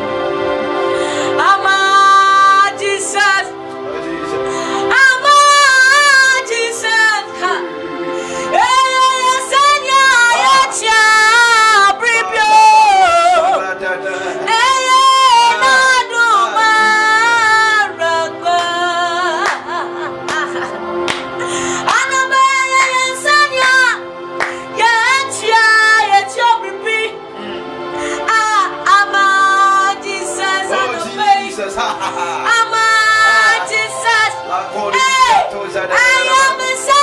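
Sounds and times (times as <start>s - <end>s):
sustained backing chords: 0.0s - 37.0s
woman singing gospel song: 1.2s - 3.5s, 4.6s - 7.7s, 8.4s - 20.7s, 21.5s - 27.2s, 28.1s - 37.0s.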